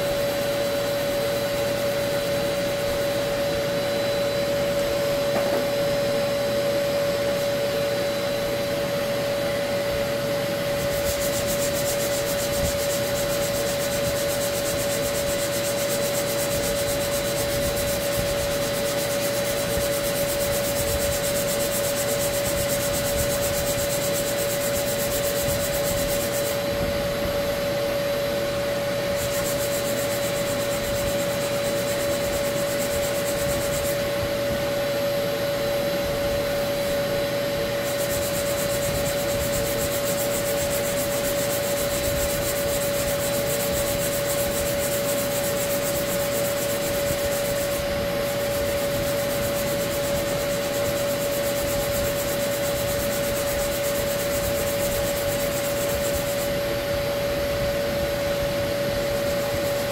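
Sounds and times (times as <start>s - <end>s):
shop vacuum running: 0.0s - 59.9s.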